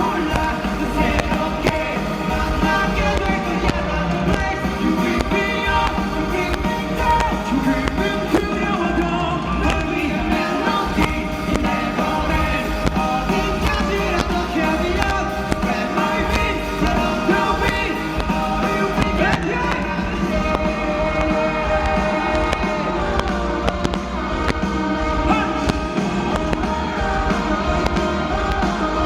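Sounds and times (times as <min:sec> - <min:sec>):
rock band over sound system: 0:00.0 - 0:29.0.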